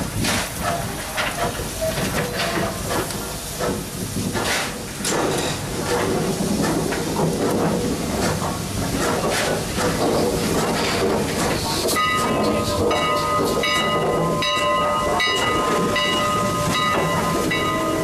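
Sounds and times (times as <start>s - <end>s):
locomotive exhaust beats: 0.0s - 18.0s
steam locomotive hissing: 0.0s - 18.0s.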